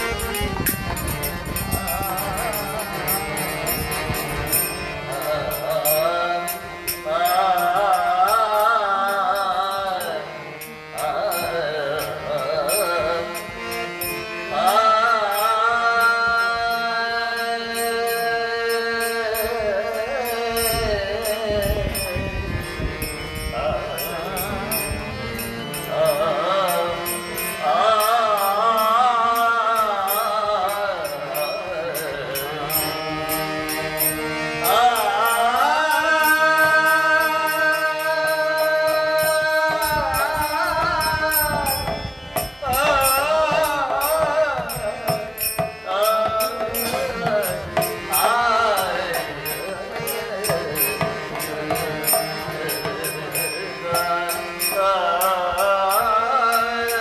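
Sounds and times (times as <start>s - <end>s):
fast high ticking percussion: 0.0s - 14.2s, 20.2s - 57.0s
harmonium drones and chords: 0.0s - 57.0s
man singing: 0.0s - 57.0s.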